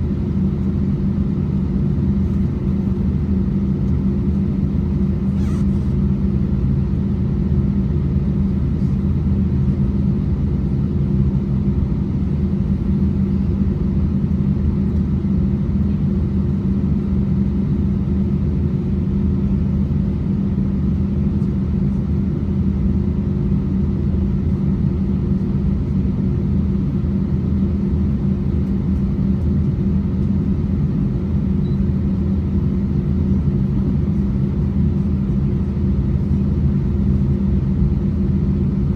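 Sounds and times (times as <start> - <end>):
aircraft cabin drone: 0.0 - 38.9.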